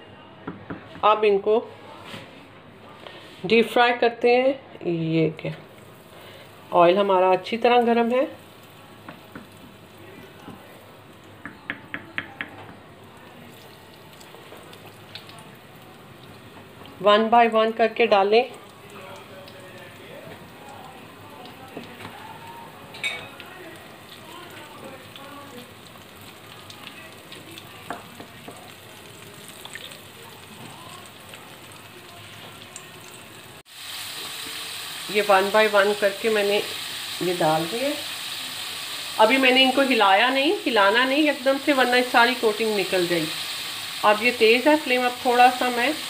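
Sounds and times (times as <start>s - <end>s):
hot oil sizzling: 5.6s - 46.0s.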